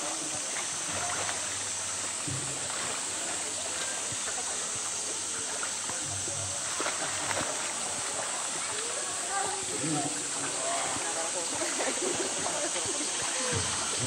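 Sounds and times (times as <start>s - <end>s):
flowing water rushing: 0.0s - 14.0s
water splashing and sloshing: 0.0s - 14.0s.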